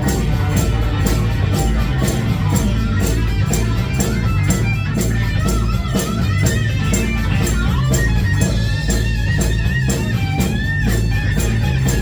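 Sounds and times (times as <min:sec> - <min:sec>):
bass guitar: 0:00.0 - 0:12.0
electric guitars: 0:00.0 - 0:12.0
steady drum beat: 0:00.0 - 0:12.0.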